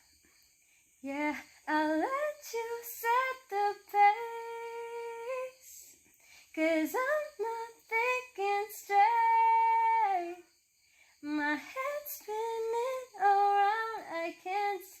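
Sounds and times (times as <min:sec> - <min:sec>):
woman singing unaccompanied: 0:01.0 - 0:10.5, 0:11.2 - 0:15.0.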